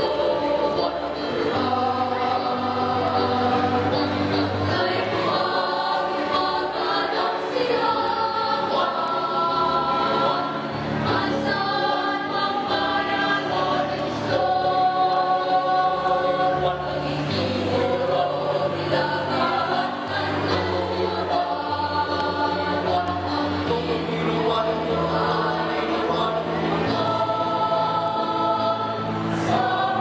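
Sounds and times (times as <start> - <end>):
choir singing in harmony: 0.0 - 30.0.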